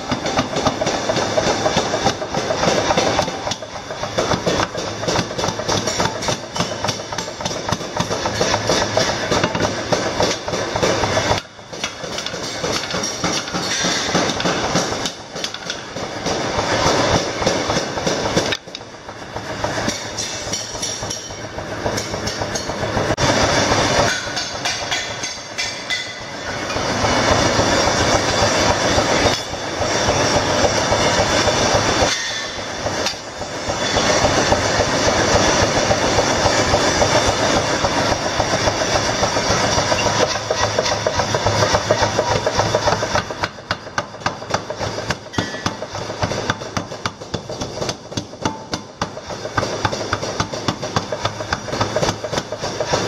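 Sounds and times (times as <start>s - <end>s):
power hammers pounding steel: 0.0s - 22.8s, 27.4s - 53.0s.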